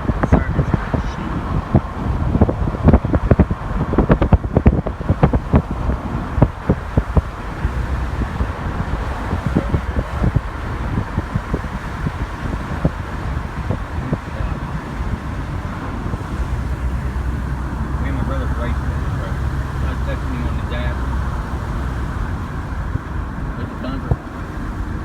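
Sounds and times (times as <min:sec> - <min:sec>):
road noise rumble: 0:00.0 - 0:25.0
wind buffeting microphone: 0:00.0 - 0:25.0.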